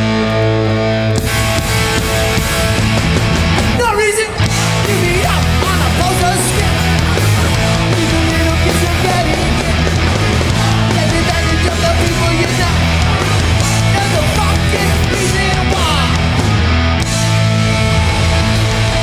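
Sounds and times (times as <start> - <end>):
punk band playing live: 0.0 - 19.0.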